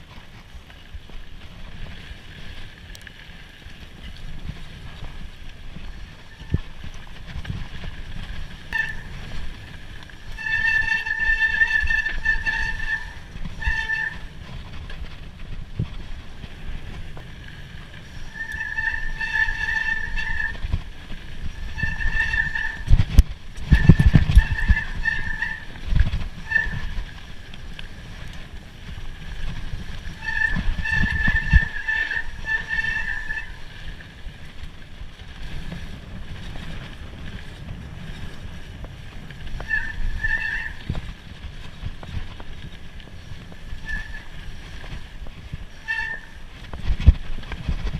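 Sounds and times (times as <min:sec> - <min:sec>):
high bike whine: 0:00.0 - 0:47.9
rumble of trail bumps: 0:00.0 - 0:47.9
wind on microphone: 0:03.9 - 0:47.9.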